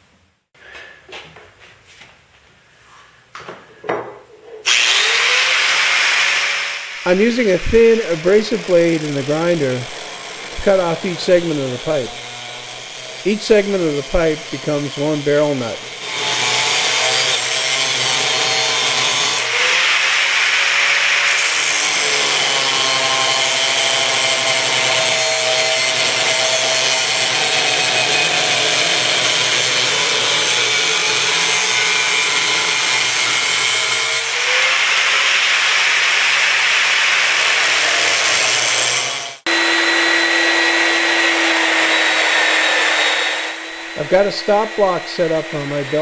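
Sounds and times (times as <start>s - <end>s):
angle grinder cutting steel pipe: 4.6s - 46.0s
belt sander humming: 4.7s - 21.2s, 22.0s - 46.0s.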